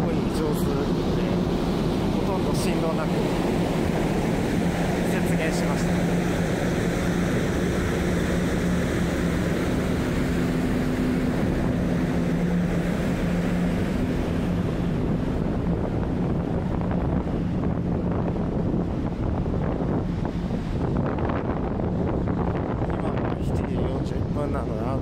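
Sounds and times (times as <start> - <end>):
low hum of ferry machinery: 0.0 - 25.0
wind buffeting microphone: 0.0 - 25.0.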